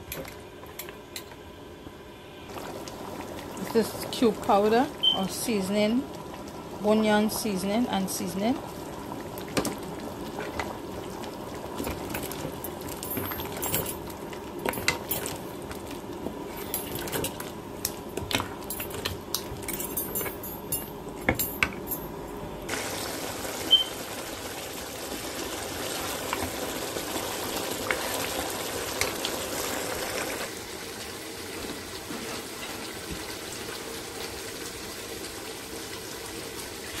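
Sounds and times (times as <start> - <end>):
simmering pot bubbling: 2.5 - 20.2, 22.7 - 37.0.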